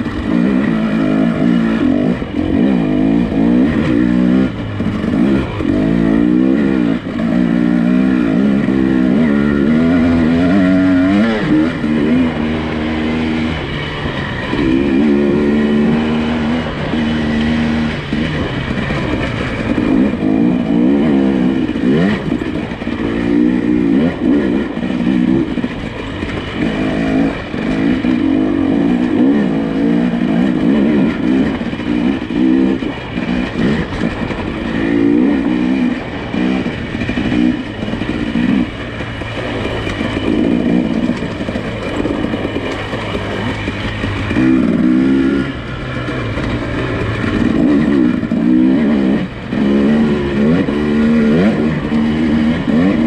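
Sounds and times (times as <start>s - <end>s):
suv engine revving: 0.0s - 53.0s.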